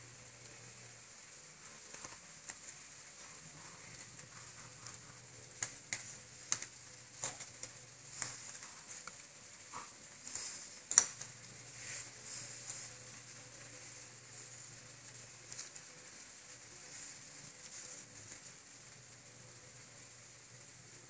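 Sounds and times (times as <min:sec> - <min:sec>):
faint hum: 0:00.0 - 0:21.0
steady hiss: 0:00.0 - 0:21.0.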